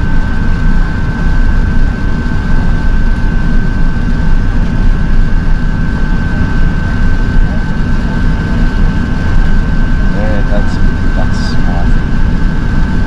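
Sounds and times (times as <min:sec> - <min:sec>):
aircraft cabin rumble: 0:00.0 - 0:13.0
high whine: 0:00.0 - 0:13.0.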